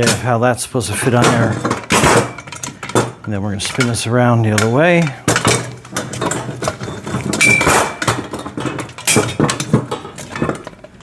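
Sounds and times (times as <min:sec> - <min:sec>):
steel parts clanking: 0:00.0 - 0:11.0.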